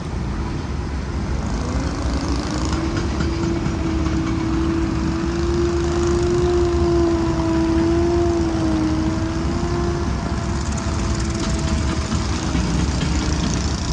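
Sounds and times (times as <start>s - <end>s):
tractor engine rumbling: 0.0s - 13.9s.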